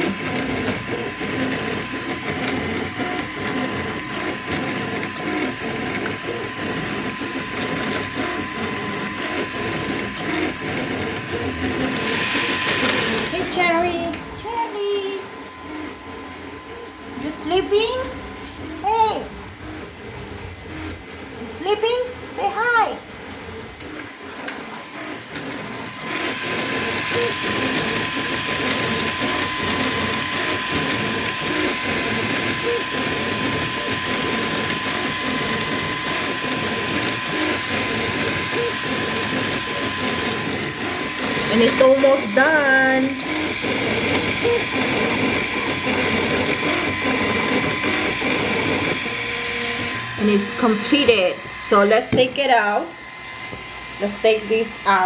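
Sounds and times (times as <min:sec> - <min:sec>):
steady high hum: 0:00.0 - 0:55.0
stepper motors whirring: 0:00.0 - 0:55.0.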